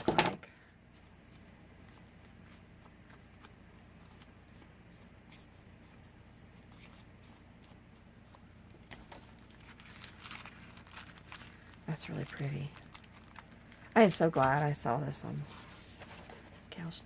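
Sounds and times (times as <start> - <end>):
paper rustling: 0.1 - 16.7.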